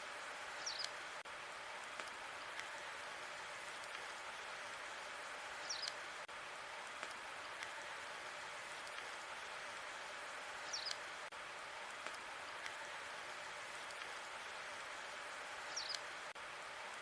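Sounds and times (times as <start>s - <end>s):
log fire crackling: 0.0s - 17.0s.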